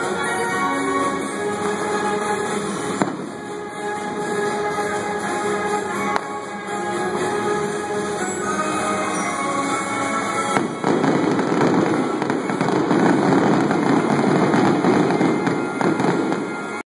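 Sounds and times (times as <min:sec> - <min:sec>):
fireworks bangs and crackles: 0:00.0 - 0:16.8
music playing: 0:00.0 - 0:16.8.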